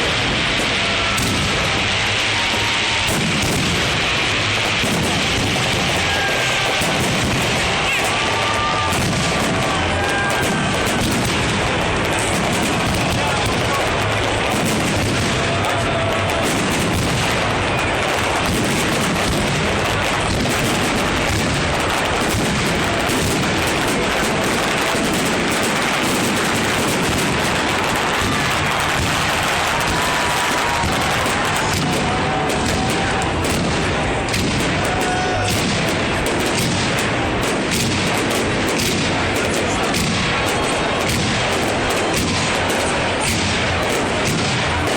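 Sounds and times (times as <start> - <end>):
fireworks popping and crackling: 0.0 - 44.9.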